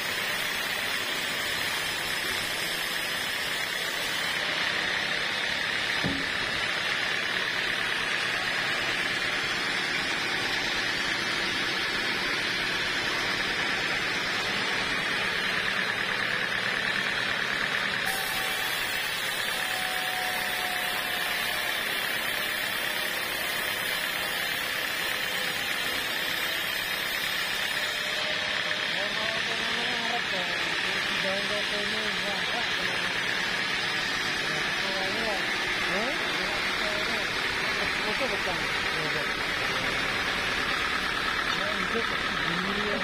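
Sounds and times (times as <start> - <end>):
band saw cutting wood: 0.0 - 43.0.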